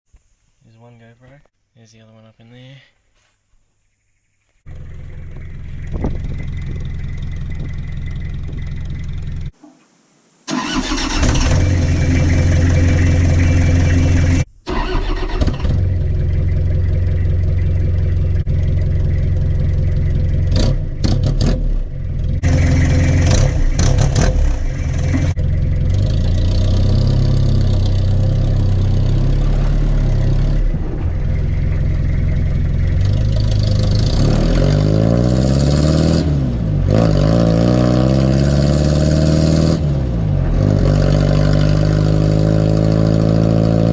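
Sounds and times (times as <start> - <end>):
diesel engine revving: 4.7 - 9.5, 10.5 - 43.9.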